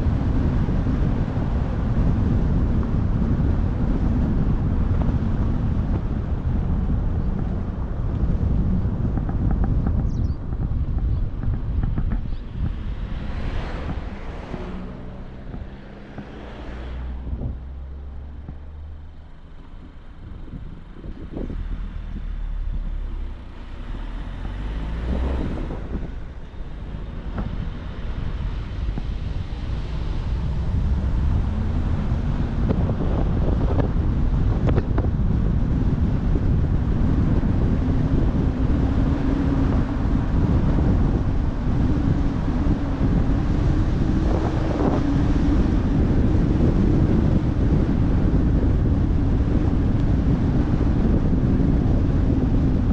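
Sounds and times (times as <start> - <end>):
car engine and road rumble: 0.0 - 52.9
wind buffeting microphone: 0.0 - 52.9.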